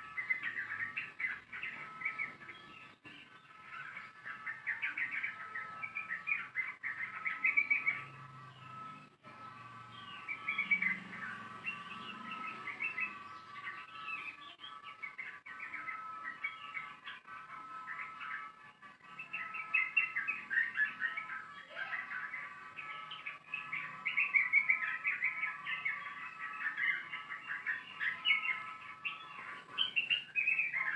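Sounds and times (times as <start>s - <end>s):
bird singing rapid chirps: 0.0s - 30.9s.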